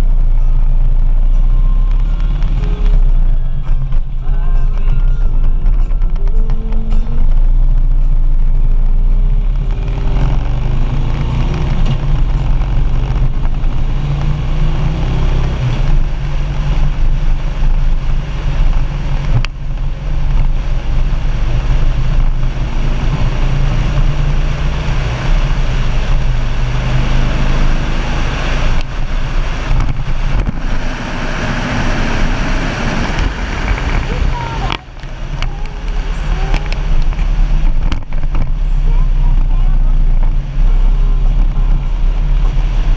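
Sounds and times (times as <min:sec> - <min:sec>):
motorcycle engine running: 0:00.0 - 0:42.9
wind rushing: 0:02.4 - 0:42.9.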